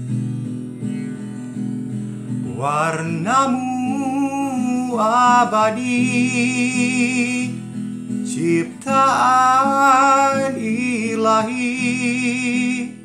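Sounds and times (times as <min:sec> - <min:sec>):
acoustic guitar strumming: 0:00.0 - 0:13.0
man singing a slow ballad: 0:02.4 - 0:13.0.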